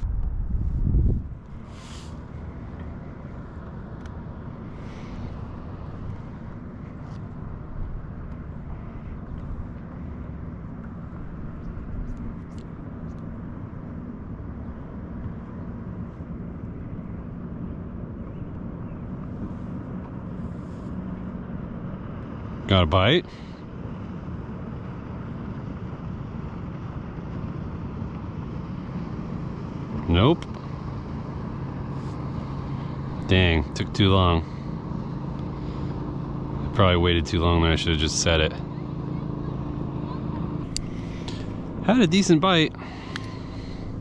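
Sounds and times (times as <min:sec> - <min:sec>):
distant engine drone: 0:00.0 - 0:44.0.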